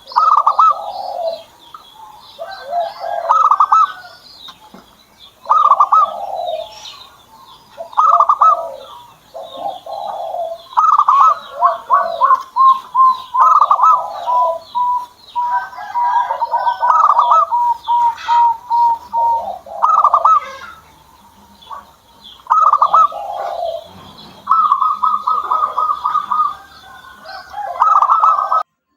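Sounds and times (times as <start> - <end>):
dove cooing: 0.0 - 28.7.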